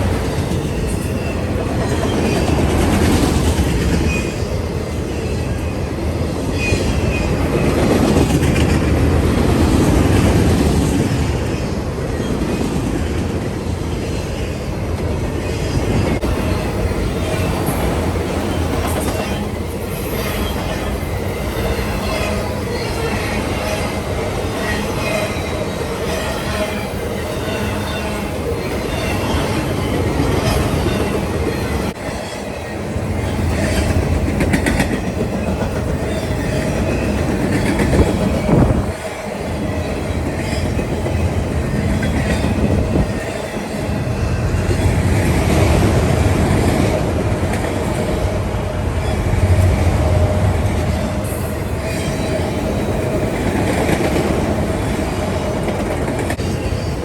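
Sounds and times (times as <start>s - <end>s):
train wheels squealing: 0.0s - 8.6s, 13.9s - 46.0s, 46.8s - 57.0s
rumble of rail cars: 0.0s - 57.0s.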